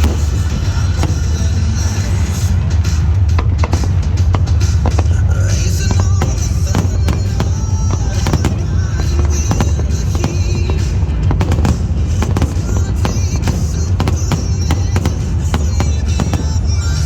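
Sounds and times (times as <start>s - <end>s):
fireworks bangs and crackles: 0.0s - 17.0s
loud music with heavy bass: 0.0s - 17.0s.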